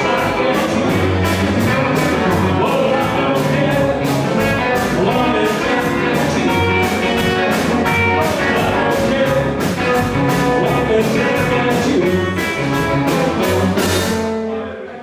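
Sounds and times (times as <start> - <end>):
drums: 0.0 - 15.0
electric guitars: 0.0 - 15.0
upright double bass: 0.0 - 15.0.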